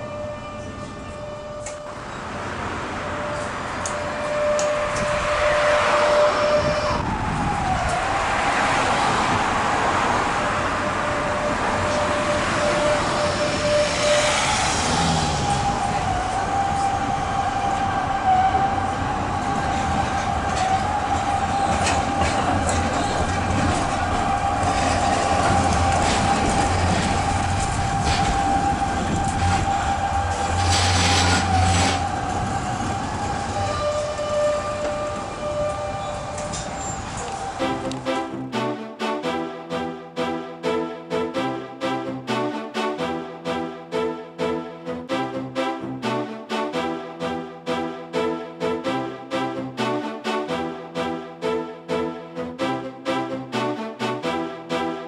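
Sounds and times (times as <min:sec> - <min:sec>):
tram rolling on rails: 0:00.0 - 0:55.0.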